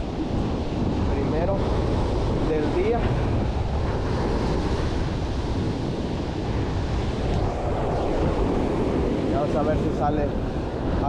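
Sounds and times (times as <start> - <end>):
surf breaking: 0.0 - 11.0
wind buffeting microphone: 0.0 - 11.0.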